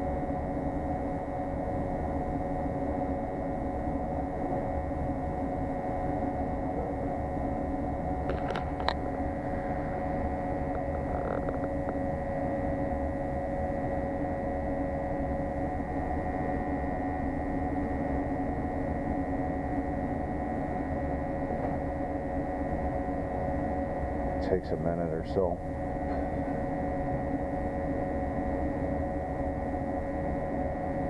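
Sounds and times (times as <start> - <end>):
gas water heater burning: 0.0 - 31.0.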